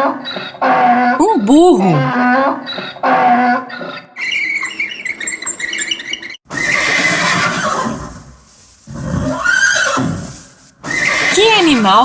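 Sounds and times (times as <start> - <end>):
horse whinnying: 0.2 - 5.9, 6.5 - 8.2, 8.9 - 11.5.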